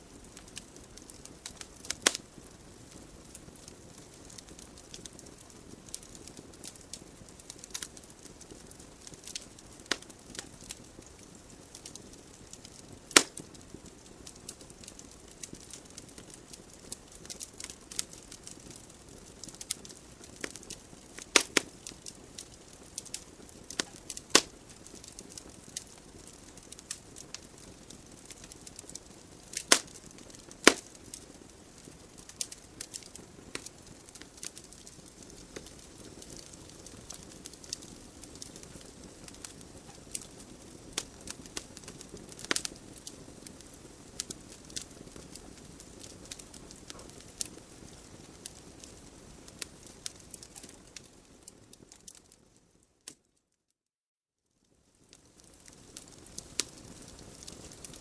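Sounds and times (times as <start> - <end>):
wood logs burning in fireplace: 0.0 - 53.3, 54.7 - 58.0.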